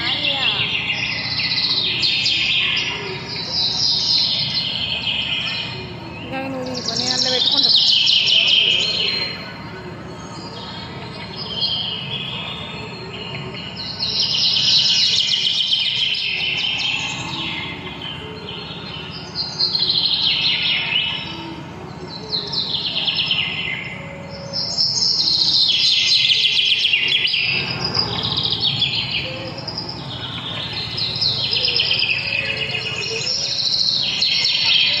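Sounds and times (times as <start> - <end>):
birds chirping and twittering: 0.0 - 35.0.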